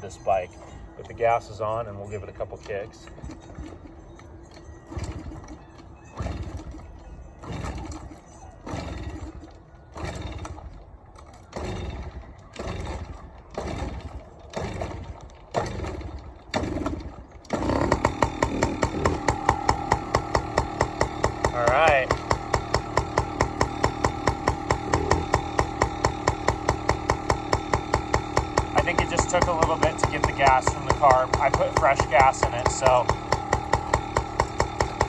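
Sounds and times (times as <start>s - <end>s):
engine kick-start attempts: 0.0s - 35.0s
small two-stroke engine running: 4.8s - 35.0s.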